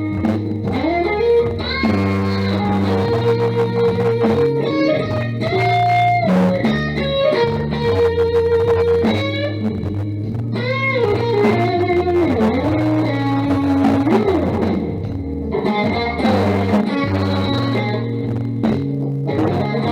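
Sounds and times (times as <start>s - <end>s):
electric guitar music: 0.0s - 19.9s
low bass notes: 0.0s - 19.9s.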